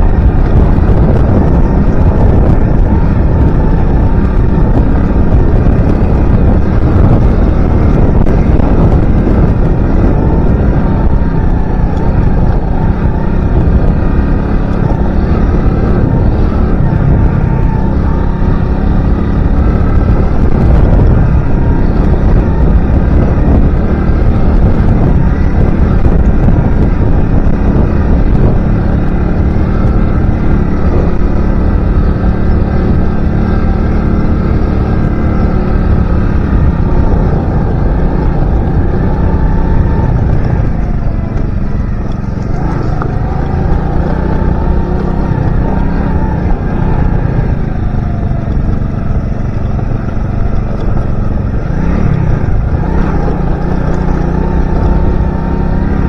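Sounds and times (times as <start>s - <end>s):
small motorcycle engine running: 0.0s - 56.0s
wind rush on microphone: 0.0s - 56.0s.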